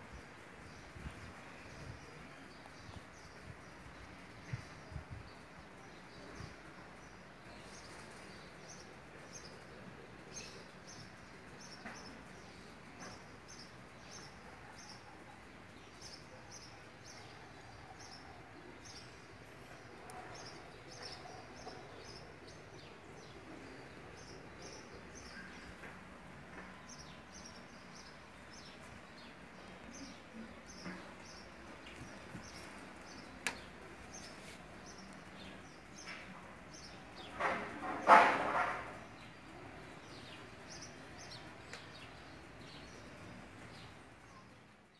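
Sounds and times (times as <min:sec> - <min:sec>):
faint outdoor background noise: 0:00.0 - 0:44.9.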